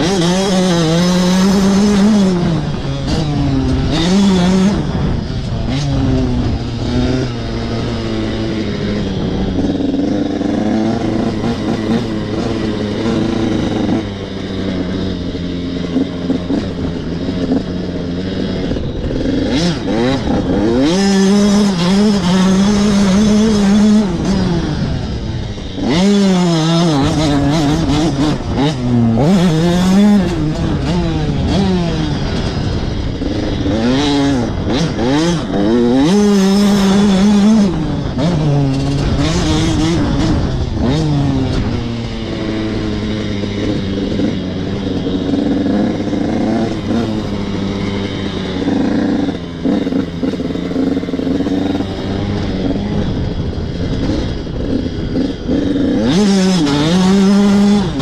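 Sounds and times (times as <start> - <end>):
motorcycle clatter on rough trail: 0.0 - 58.0
motorcycle engine revving: 0.0 - 58.0.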